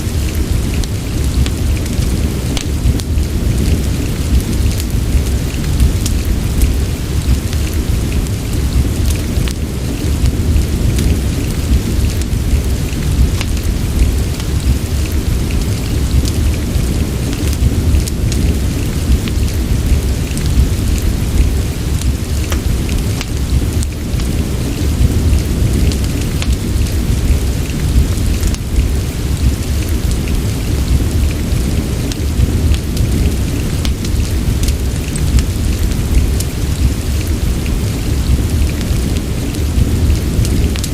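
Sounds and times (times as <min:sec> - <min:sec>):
deep low rumble: 0:00.0 - 0:40.9
fire crackles: 0:00.0 - 0:40.9
steady rain hiss: 0:00.0 - 0:40.9.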